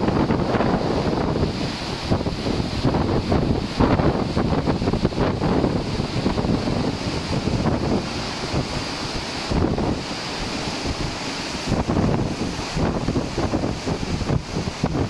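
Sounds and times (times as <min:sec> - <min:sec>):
rough sea rushing: 0:00.0 - 0:15.0
ship's wake churning: 0:00.0 - 0:15.0
wind buffeting microphone: 0:00.0 - 0:15.0.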